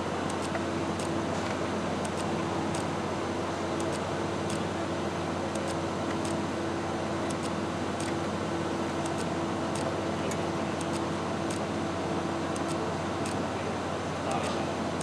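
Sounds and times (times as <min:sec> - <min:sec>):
heavy construction machinery drone: 0:00.0 - 0:15.0.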